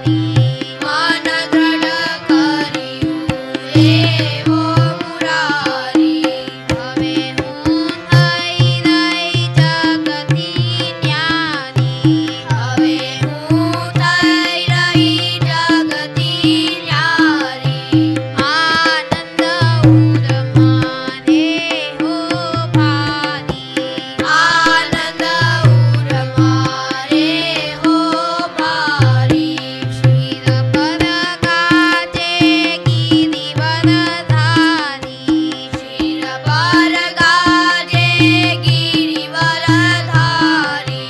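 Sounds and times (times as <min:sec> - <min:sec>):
tabla bass strokes: 0:00.0 - 0:18.8, 0:19.6 - 0:41.0
person singing devotional song: 0:00.0 - 0:41.0.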